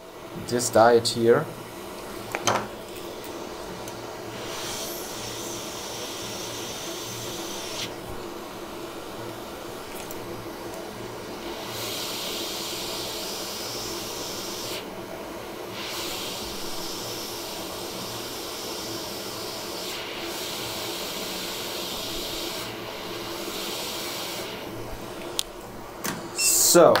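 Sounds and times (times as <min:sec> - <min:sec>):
hot-air rework station hissing: 0:00.0 - 0:27.0.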